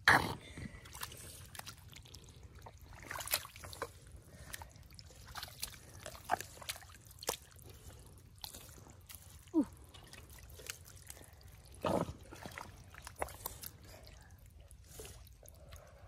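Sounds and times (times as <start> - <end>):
small splashes: 0.7 - 16.0
sharp ticks and drips: 0.8 - 16.0.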